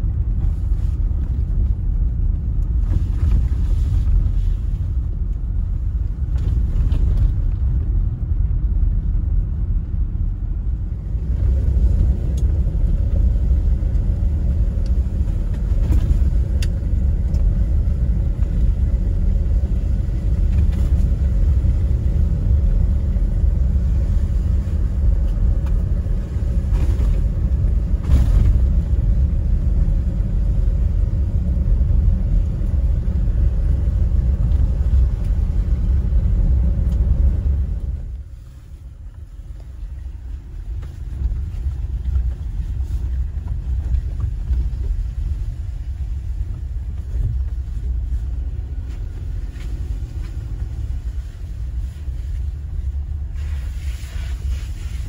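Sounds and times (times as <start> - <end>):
car driving on wet gravel: 0.0 - 55.0.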